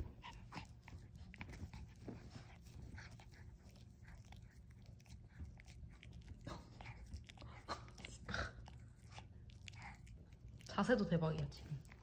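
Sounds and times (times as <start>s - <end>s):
dog gnawing and chewing: 0.0s - 12.0s.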